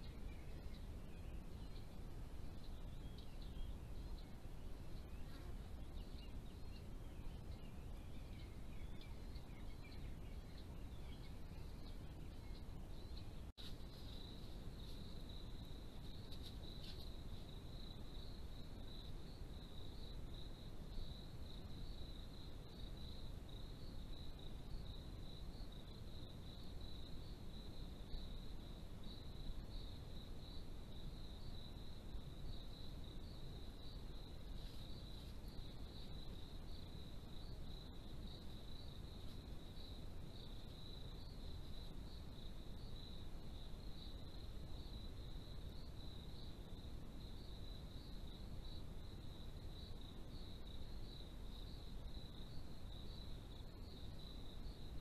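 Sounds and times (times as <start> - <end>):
crickets chirping: 0.0 - 55.0
low background noise: 0.0 - 55.0.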